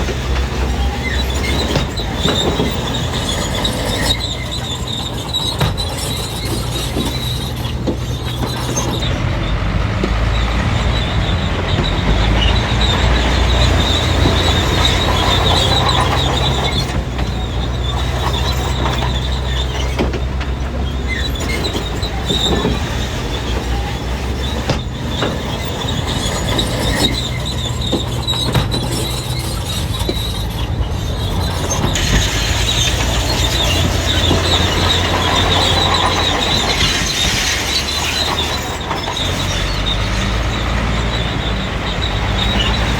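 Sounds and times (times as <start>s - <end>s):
bulldozer diesel engine: 0.0s - 42.9s
crawler tracks clanking and squealing: 0.0s - 42.9s.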